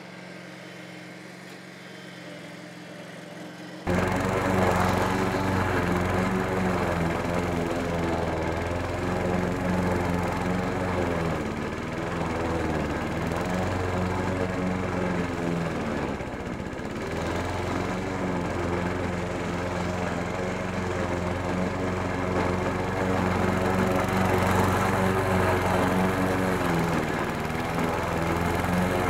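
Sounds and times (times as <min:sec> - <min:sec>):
mower engine cutting grass: 0:00.0 - 0:29.0.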